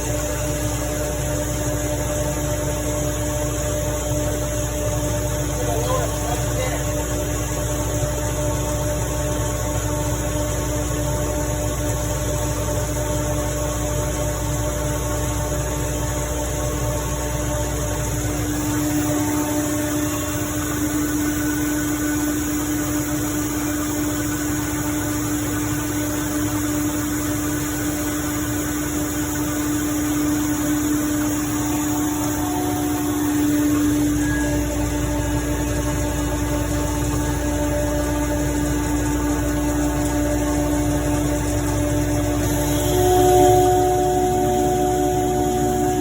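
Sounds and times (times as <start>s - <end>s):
air compressor humming: 0.0s - 46.0s.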